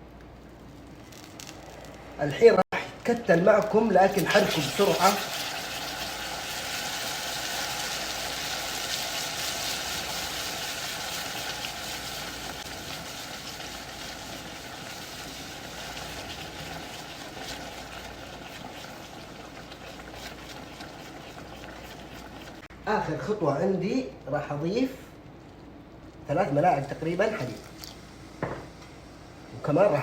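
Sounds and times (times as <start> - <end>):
caramel sizzling and bubbling: 0.0 - 22.7, 26.2 - 30.0.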